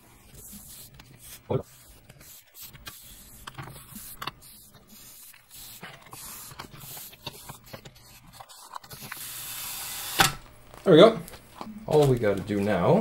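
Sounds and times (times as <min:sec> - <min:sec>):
magnetic mat peeling with crackles: 0:00.0 - 0:13.0.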